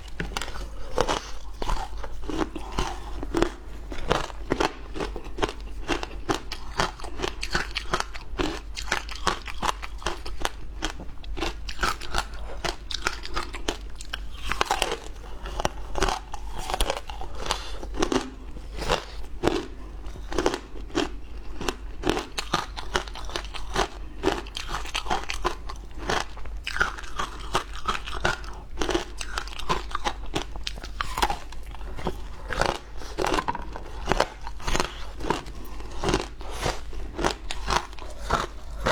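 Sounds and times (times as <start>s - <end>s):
chewing: 0.0s - 38.9s
ice crunching between teeth: 0.0s - 38.9s.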